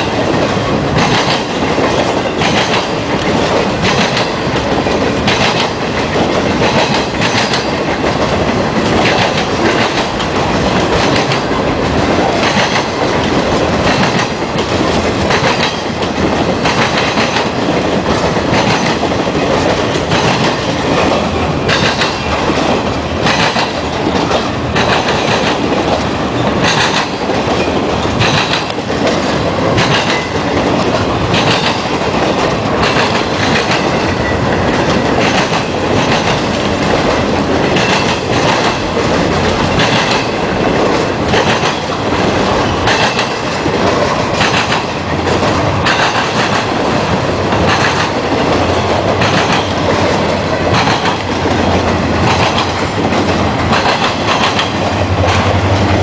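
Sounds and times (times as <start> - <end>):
rumble of train wheels on rail: 0.0 - 56.0
wheels clacking over rail joints: 0.0 - 56.0.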